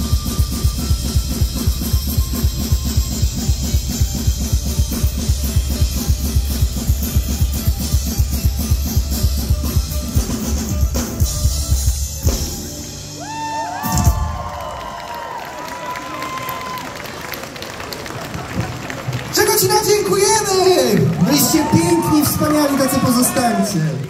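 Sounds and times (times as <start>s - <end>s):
live band playing fast beat: 0.0s - 15.0s, 18.4s - 23.9s.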